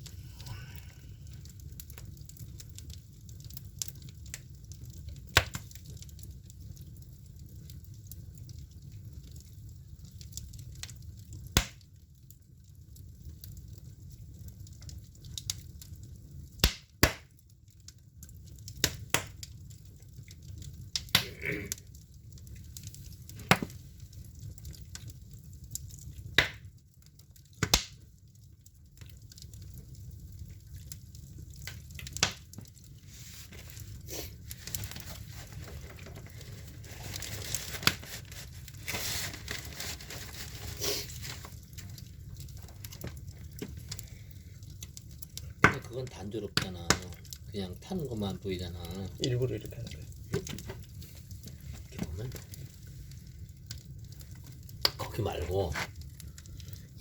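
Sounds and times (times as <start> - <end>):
firewood popping and cracking: 0.0 - 57.0
low fire rumble: 0.0 - 57.0.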